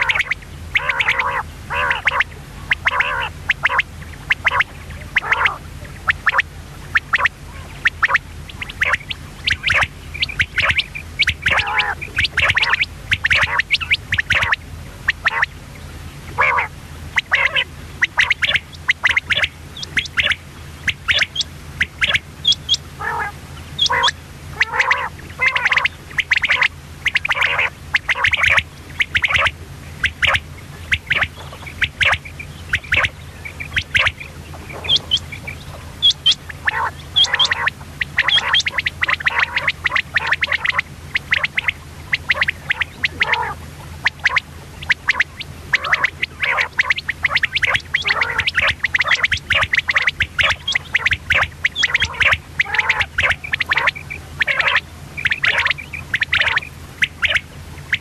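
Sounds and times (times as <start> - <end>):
low hum: 0.0 - 58.0
quail calling: 0.0 - 58.0.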